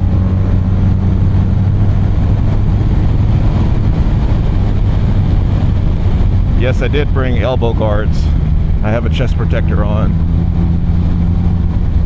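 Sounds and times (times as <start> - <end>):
motorcycle engine cruising: 0.0 - 12.0
riding wind rushing: 0.0 - 12.0.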